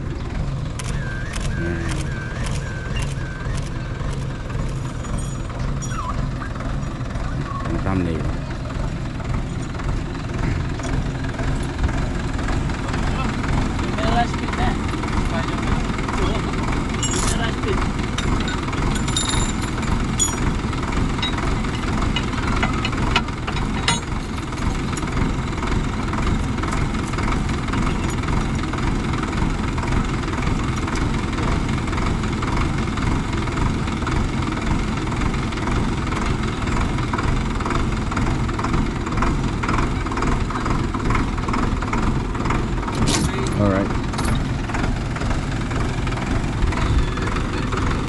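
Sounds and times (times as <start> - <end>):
tractor diesel engine idling: 0.0 - 48.0.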